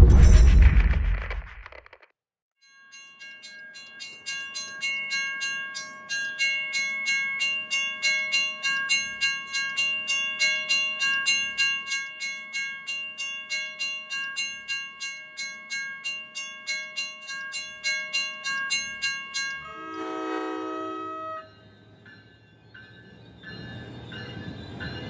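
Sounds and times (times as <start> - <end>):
railroad crossing bell ringing: 2.6 - 25.0.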